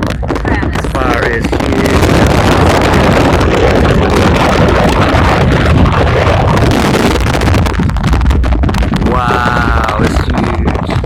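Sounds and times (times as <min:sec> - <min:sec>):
moving vehicle rumble: 0:00.0 - 0:11.0
wind buffeting microphone: 0:00.0 - 0:11.0.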